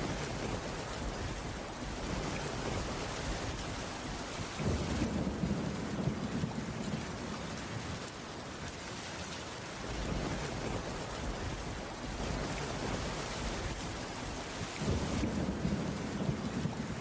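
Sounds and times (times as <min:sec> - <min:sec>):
rain on a wooden roof: 0:00.0 - 0:17.0.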